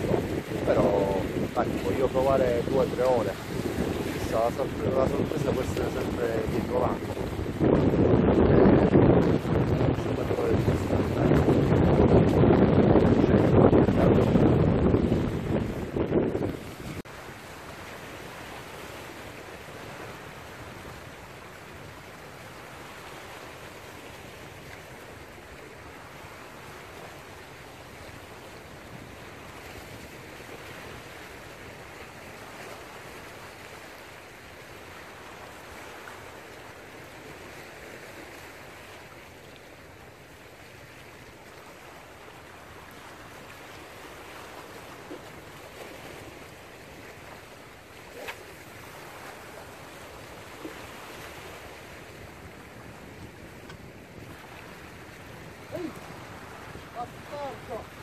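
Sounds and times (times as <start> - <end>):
waves splashing over rocks: 0.0 - 58.0.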